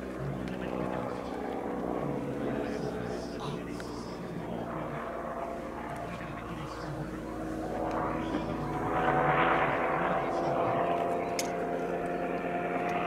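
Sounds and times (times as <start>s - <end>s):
aircraft rotary engine drone: 0.0s - 13.0s.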